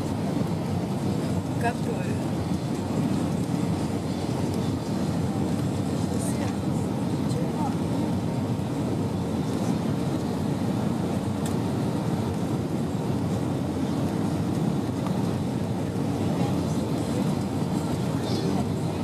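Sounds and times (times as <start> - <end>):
airplane engines in cabin: 0.0 - 19.0.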